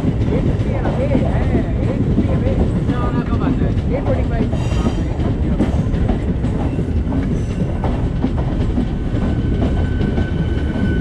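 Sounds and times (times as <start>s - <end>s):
passenger train rumble: 0.0s - 11.0s.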